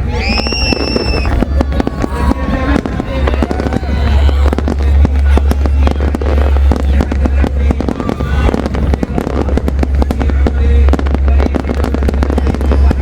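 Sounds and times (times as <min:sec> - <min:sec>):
deep rumble: 0:00.0 - 0:13.0
fireworks bangs and crackles: 0:00.0 - 0:13.0.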